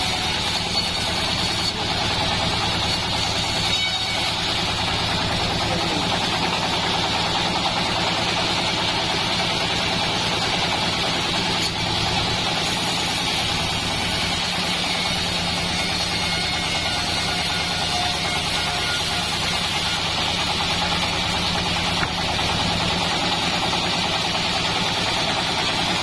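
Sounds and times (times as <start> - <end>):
bandsaw mill running: 0.0 - 26.0.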